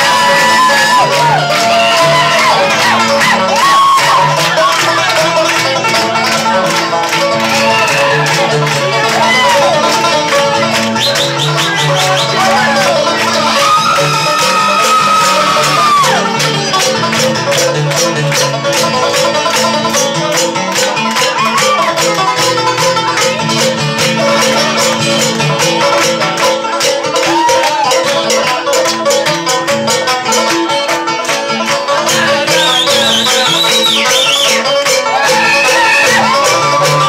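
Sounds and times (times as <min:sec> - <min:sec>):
banjo picking: 0:00.0 - 0:37.0.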